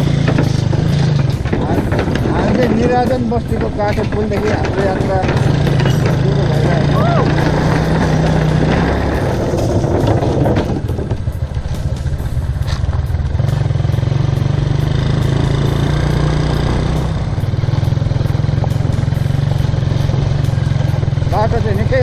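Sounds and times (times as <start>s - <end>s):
motorcycle engine throbbing: 0.0s - 22.0s.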